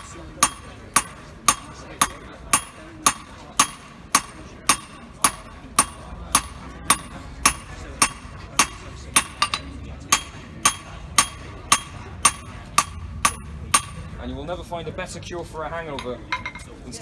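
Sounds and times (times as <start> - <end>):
hammer striking metal on anvil: 0.0 - 14.1.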